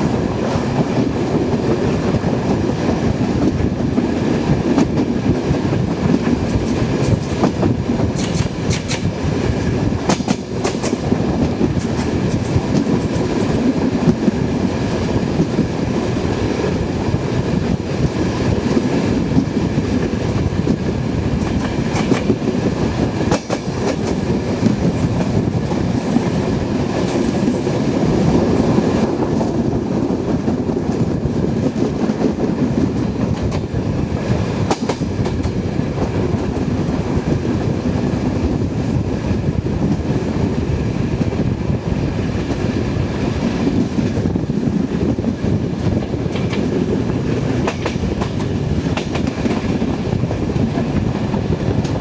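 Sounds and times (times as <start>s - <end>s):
train rumbling: 0.0s - 52.0s.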